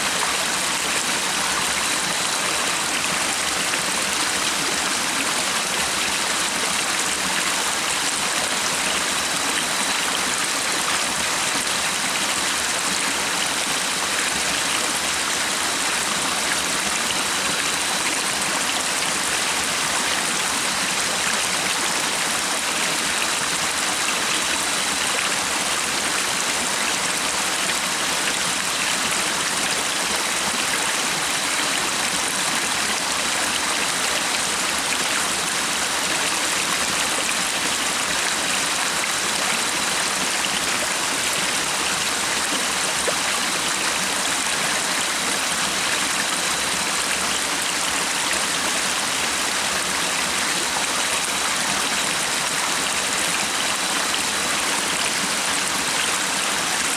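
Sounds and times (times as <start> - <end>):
stream flowing: 0.0 - 56.9.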